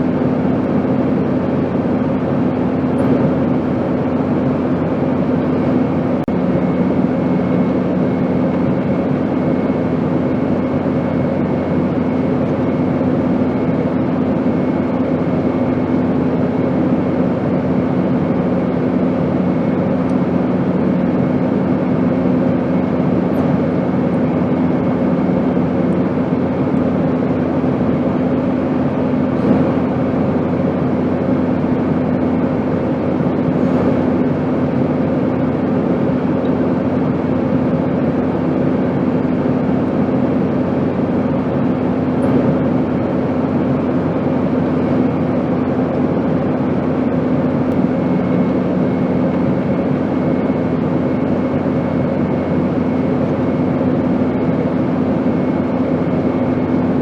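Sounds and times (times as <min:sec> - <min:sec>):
low drone: 0:00.0 - 0:57.0.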